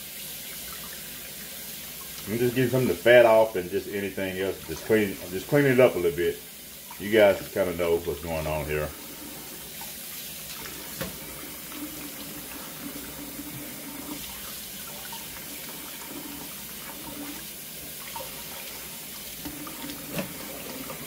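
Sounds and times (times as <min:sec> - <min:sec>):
faucet running into water: 0:00.0 - 0:21.0.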